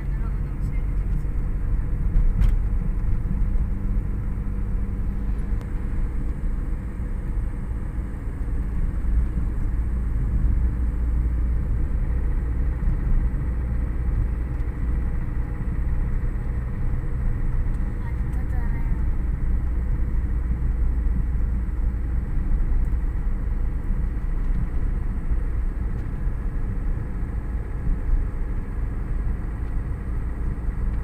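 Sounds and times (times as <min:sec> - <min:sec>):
vehicle driving low rumble: 0:00.0 - 0:31.0.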